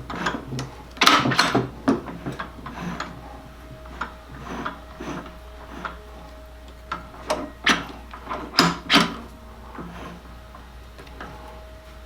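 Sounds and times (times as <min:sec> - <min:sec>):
gearbox clicks and clunks: 0:00.0 - 0:12.0.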